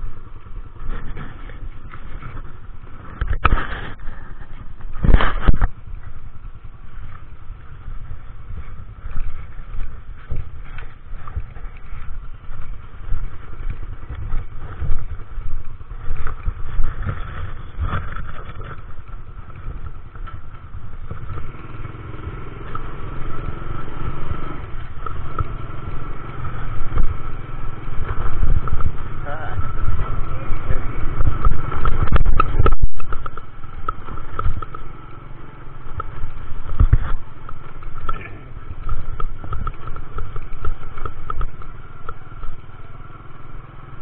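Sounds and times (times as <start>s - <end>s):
scooter engine running: 0.0s - 44.0s.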